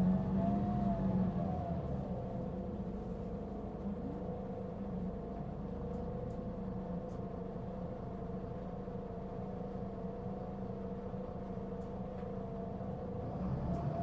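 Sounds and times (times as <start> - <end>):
bus diesel engine idling: 0.0 - 13.3.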